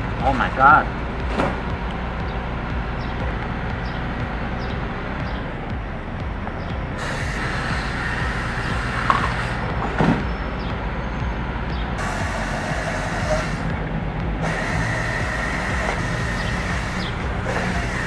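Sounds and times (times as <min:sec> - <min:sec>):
large diesel engine running: 0:00.0 - 0:18.0.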